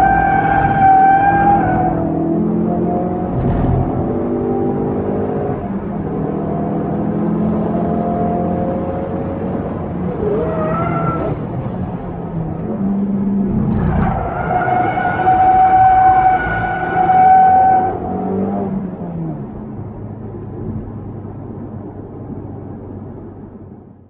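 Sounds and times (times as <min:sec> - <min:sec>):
car engine revving through gears: 0:00.0 - 0:19.5.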